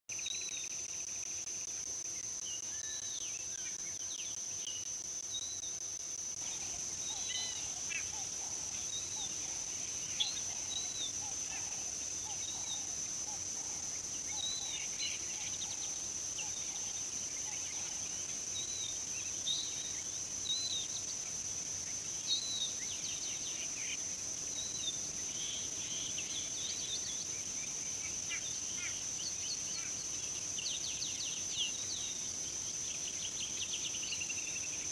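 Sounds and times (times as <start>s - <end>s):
high-pitched insect drone: 0.1s - 34.9s.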